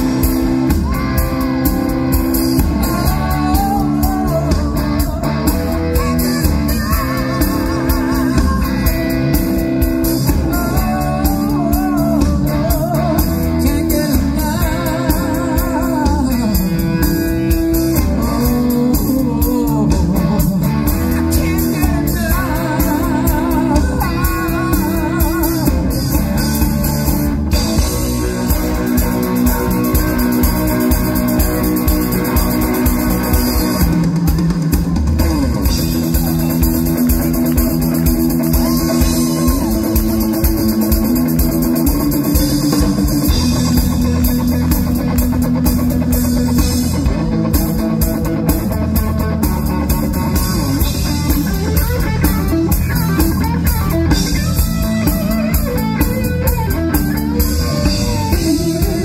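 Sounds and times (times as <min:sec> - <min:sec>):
drum kit beat: 0:00.0 - 0:59.0
electric guitar: 0:00.0 - 0:59.0
rock band playing: 0:00.0 - 0:59.0.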